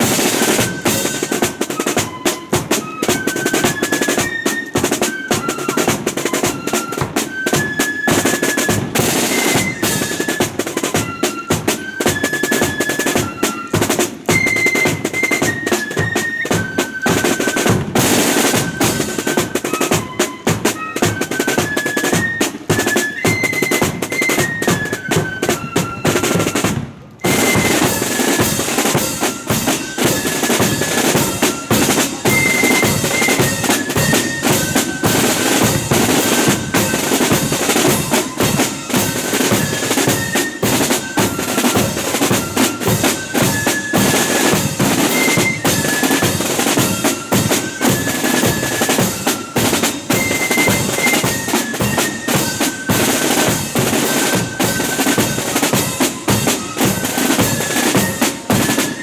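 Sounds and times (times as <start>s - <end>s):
flute melody: 0.0s - 59.0s
rolling snare drums: 0.0s - 59.0s.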